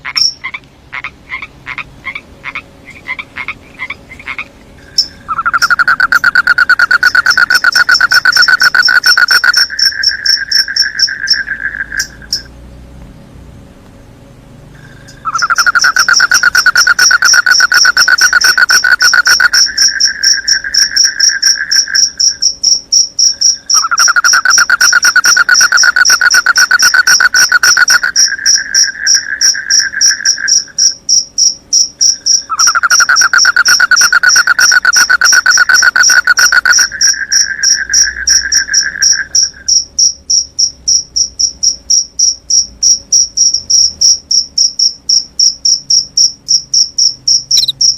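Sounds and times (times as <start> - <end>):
crickets chirping chorus: 0.0 - 12.9, 14.7 - 47.9
low pulsing insect trill: 0.0 - 13.4, 14.6 - 47.9.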